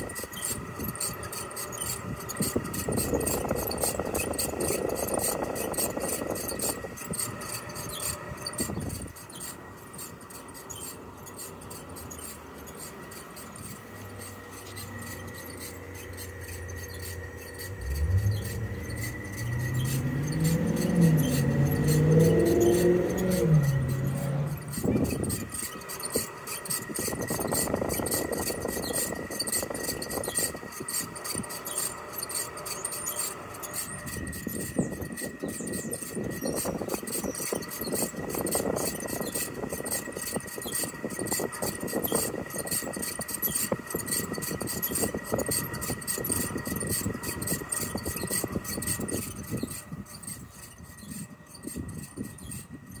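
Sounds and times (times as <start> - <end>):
fan squealing: 0.0 - 53.0
rapid ticking: 0.0 - 53.0.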